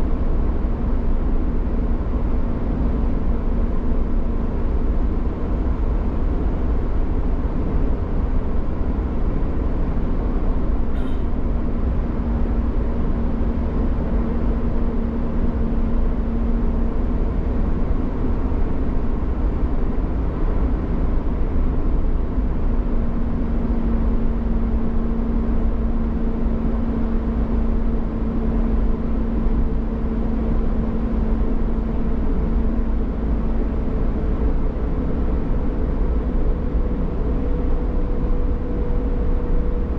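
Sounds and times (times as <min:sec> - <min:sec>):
vehicle engine hum: 0:00.0 - 0:39.9.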